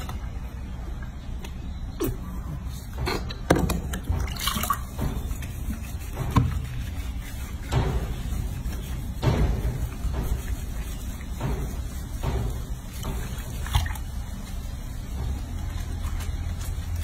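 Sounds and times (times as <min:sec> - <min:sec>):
water sloshing and splashing: 0:02.6 - 0:17.0.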